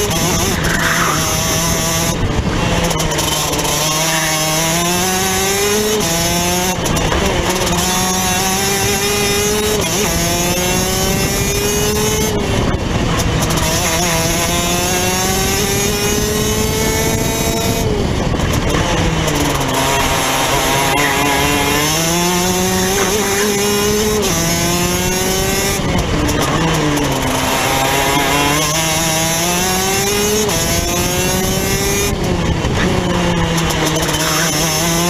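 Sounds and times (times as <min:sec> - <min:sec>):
kart two-stroke engine revving: 0:00.0 - 0:35.0.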